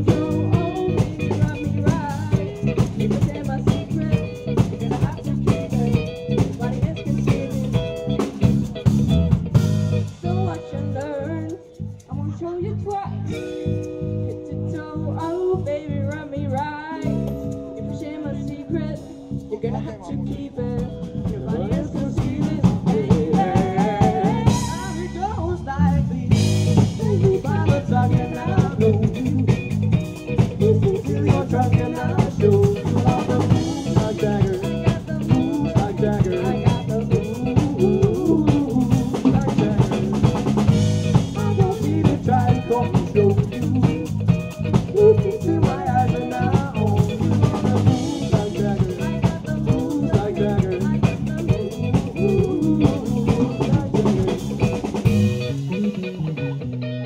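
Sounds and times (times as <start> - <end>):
person singing: 0.0 - 8.8, 9.9 - 56.8
drum kit beat: 0.0 - 12.2, 12.9 - 56.5
bass guitar: 0.0 - 57.0
electric guitar: 0.0 - 57.0.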